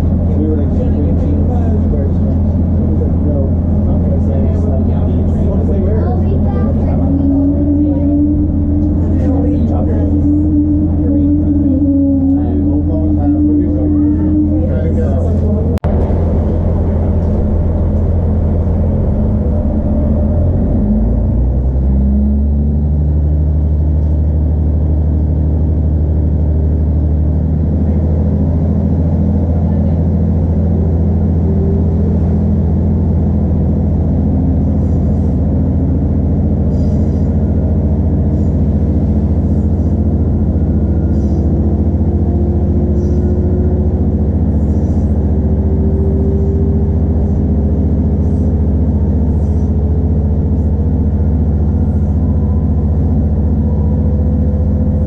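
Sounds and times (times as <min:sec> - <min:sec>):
train diesel engine revving: 0:00.0 - 0:55.0.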